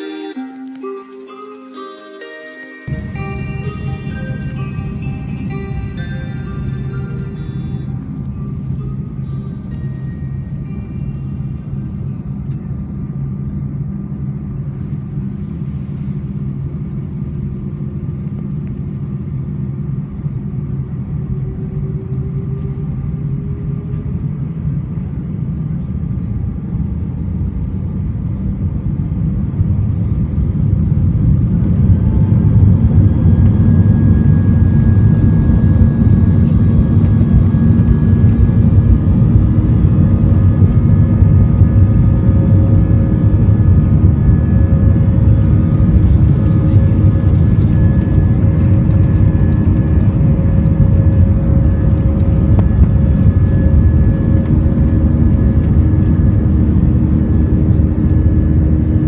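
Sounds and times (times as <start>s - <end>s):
jet engines heard from cabin: 0.0s - 59.0s.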